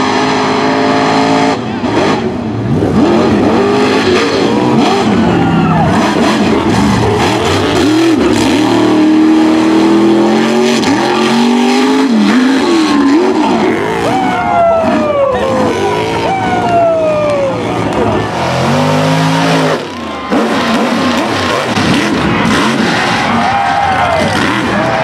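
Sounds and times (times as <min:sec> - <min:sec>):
truck engines revving: 0:00.0 - 0:25.0.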